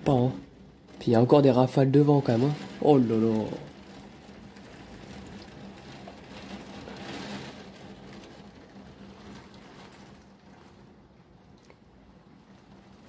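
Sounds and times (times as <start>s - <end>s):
heavy rain: 0.0s - 11.0s, 12.0s - 13.0s.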